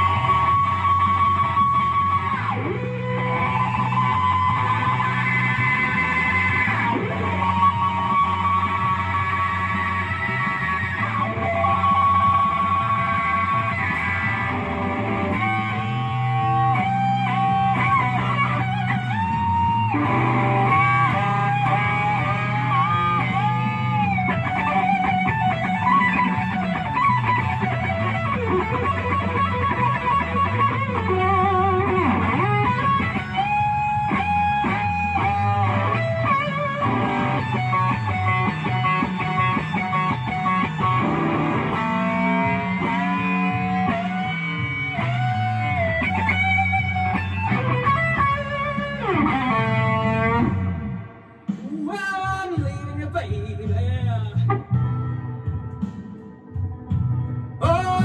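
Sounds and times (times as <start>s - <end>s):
bass line: 0.0s - 58.0s
electric guitar blues lead: 0.0s - 58.0s.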